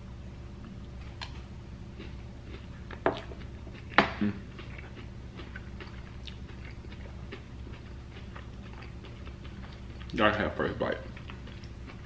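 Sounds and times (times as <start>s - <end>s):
low room hum: 0.0s - 12.0s
man chewing: 1.0s - 10.2s, 11.0s - 12.0s.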